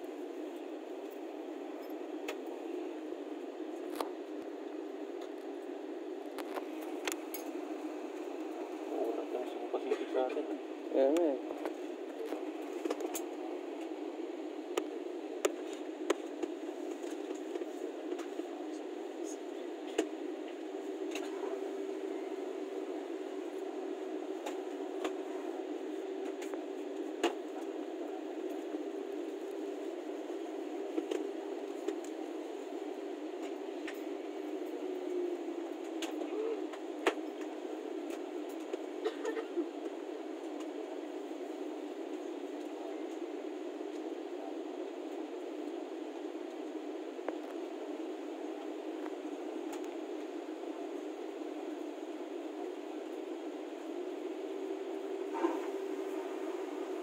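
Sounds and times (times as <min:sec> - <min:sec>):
airliner cabin ventilation hum: 0:00.0 - 0:57.0.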